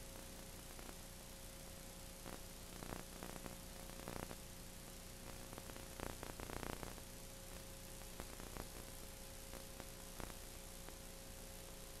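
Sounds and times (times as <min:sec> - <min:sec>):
faint steady hum: 0:00.0 - 0:12.0
steady tape hiss: 0:00.0 - 0:12.0.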